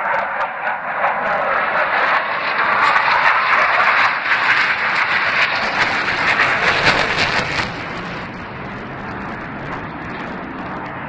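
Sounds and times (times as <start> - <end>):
jet engines roaring overhead: 0.0 - 11.0.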